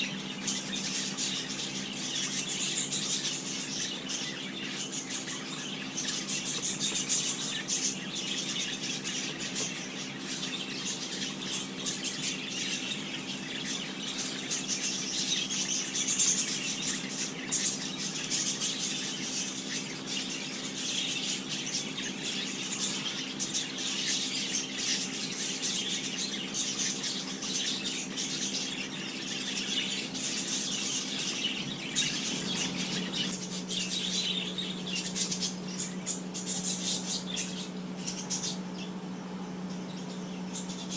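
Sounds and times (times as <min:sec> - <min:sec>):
small birds chirping: 0:00.0 - 0:40.9
steady low hum: 0:00.0 - 0:40.9.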